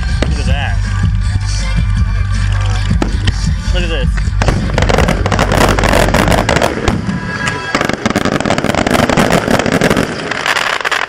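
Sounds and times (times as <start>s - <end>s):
music playing: 0.0s - 10.0s
fireworks bursting: 0.0s - 11.0s
fireworks crackling pops: 0.0s - 11.0s.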